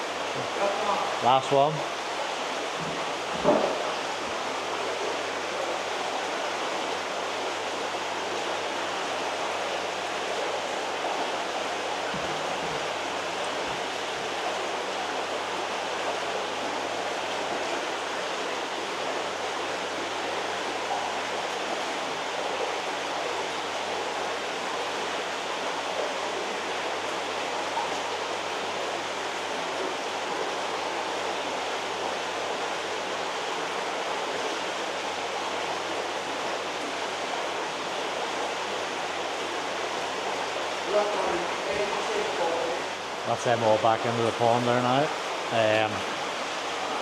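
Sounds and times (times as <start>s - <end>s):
rushing splashing water: 0.0s - 47.0s.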